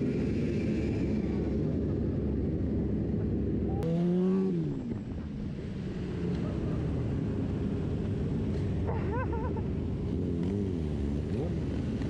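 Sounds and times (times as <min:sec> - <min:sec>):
motorcycles rumbling: 0:00.0 - 0:12.0.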